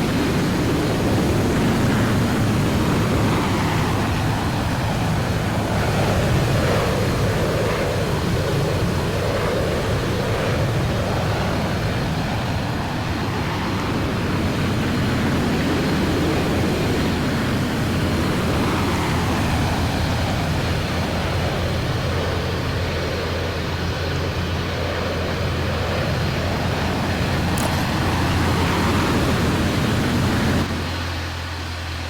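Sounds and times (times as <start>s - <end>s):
aircraft engines running: 0.0s - 32.0s.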